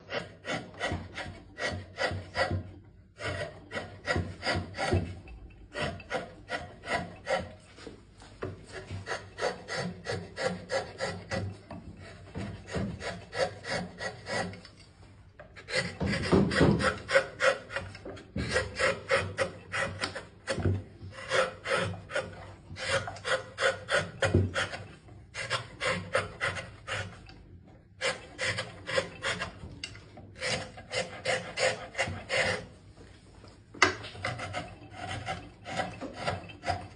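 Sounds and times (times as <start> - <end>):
carving tool scraping wood: 0.0 - 33.2, 33.8 - 36.9.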